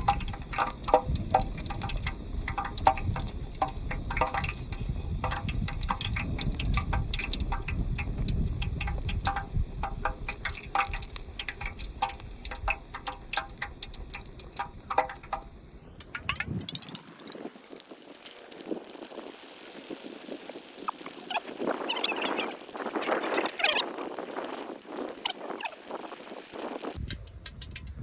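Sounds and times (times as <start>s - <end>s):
leaves sizzling in hot oil: 0.0s - 27.8s
low bubbling: 0.0s - 28.0s
oil crackling and popping: 0.0s - 28.0s.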